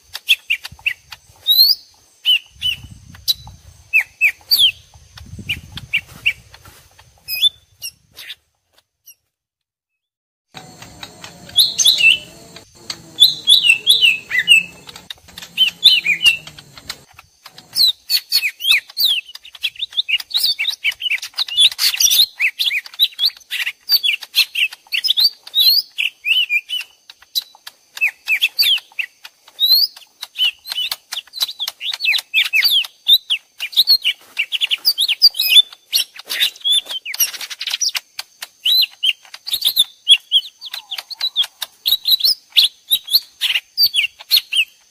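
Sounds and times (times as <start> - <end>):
birds chirping and whistling: 0.2 - 6.5, 10.6 - 38.0, 38.6 - 44.8.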